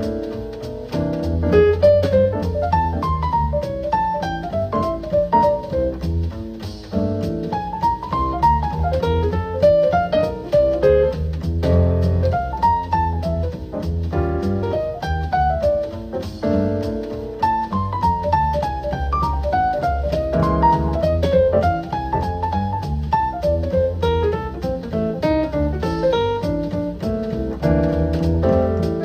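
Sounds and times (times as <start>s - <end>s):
instrumental jazz music: 0.0s - 29.0s.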